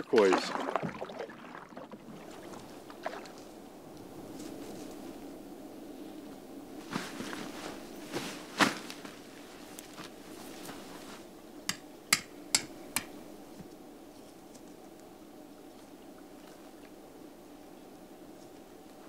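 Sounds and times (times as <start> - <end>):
faint steady background: 0.0 - 19.0.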